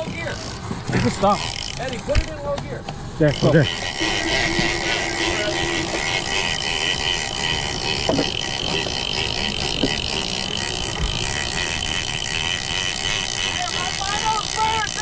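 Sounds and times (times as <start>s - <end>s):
fishing reel gears whirring: 0.0s - 2.4s, 3.0s - 15.0s.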